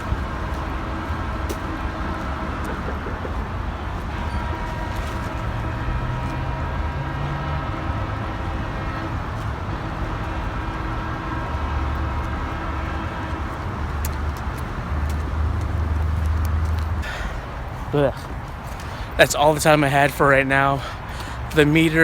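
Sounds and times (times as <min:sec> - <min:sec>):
road traffic rumble: 0:00.0 - 0:22.0
vehicle engine hum: 0:00.0 - 0:22.0.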